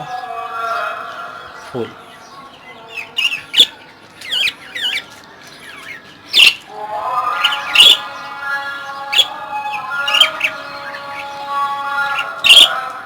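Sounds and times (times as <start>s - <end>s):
budgerigars squawking and chirping: 0.0s - 13.0s.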